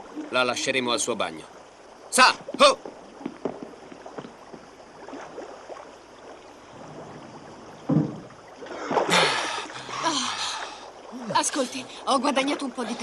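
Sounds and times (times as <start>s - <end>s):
rush of water: 0.0s - 13.0s
water moving in a bathtub: 2.0s - 13.0s.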